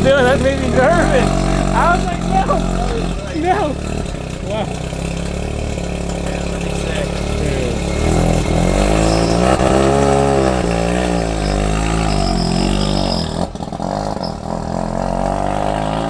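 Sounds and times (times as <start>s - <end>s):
rotary engine revving: 0.0s - 16.0s.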